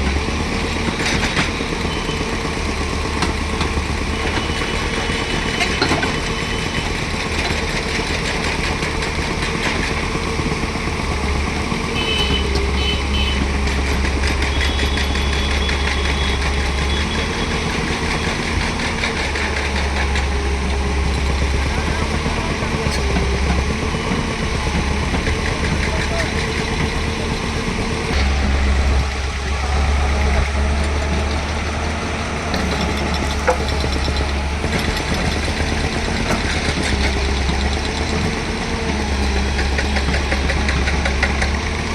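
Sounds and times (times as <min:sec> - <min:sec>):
excavator diesel engine drone: 0:00.0 - 0:41.9.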